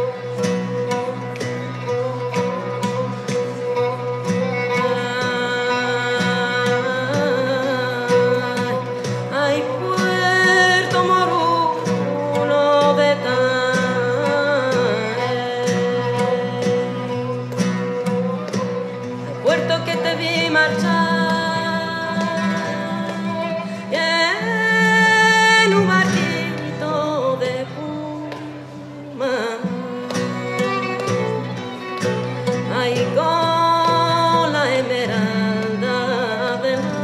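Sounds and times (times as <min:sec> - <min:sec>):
guitar: 0:00.0 - 0:37.0
person singing: 0:00.0 - 0:37.0.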